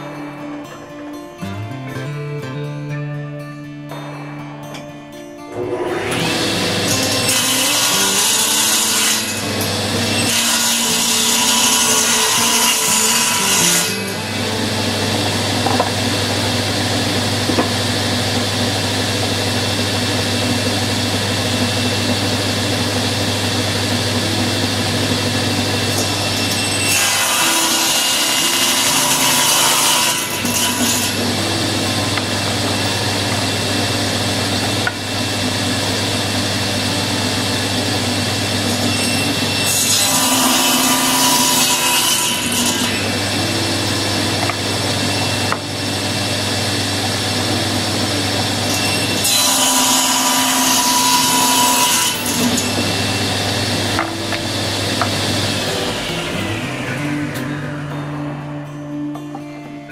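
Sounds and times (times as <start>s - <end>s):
saw blade cutting wood: 5.5s - 57.8s
table saw humming: 5.5s - 59.9s.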